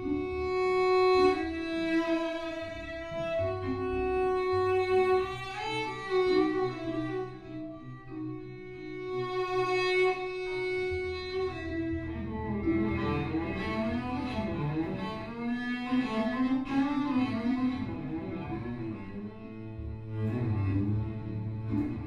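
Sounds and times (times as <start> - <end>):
cello bowed melody: 0.0 - 22.0.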